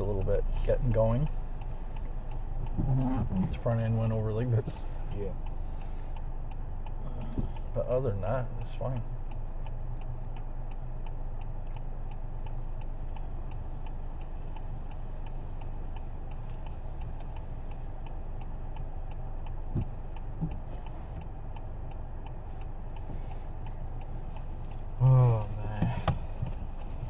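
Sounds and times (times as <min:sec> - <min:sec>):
car engine and road rumble: 0:00.0 - 0:27.0
turn signal ticking: 0:00.0 - 0:27.0.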